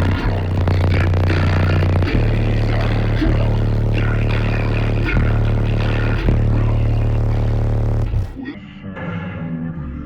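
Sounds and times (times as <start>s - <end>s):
subwoofer playing low bass notes: 0.0s - 8.6s.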